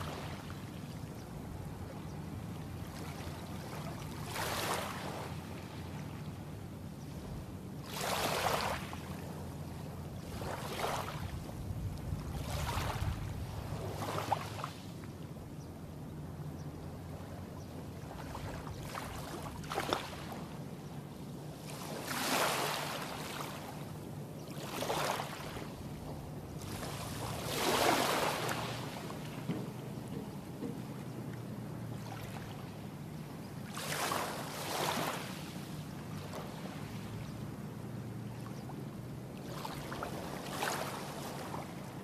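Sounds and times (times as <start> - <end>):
small waves washing onto beach: 0.0 - 15.2, 17.1 - 20.8, 21.5 - 42.0
steady low hum: 0.0 - 22.0, 23.0 - 42.0.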